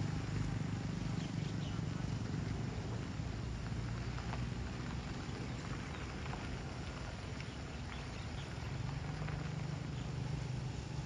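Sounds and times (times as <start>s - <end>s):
diesel locomotive engine hum: 0.0s - 11.0s.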